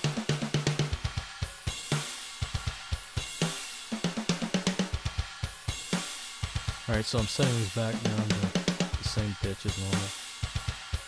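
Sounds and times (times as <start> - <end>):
drum kit playing fast pattern: 0.0 - 11.0.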